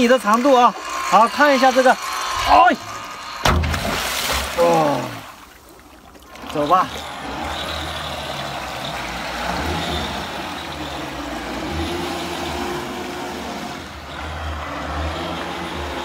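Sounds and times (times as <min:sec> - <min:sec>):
boat motor churning water: 0:00.0 - 0:16.0.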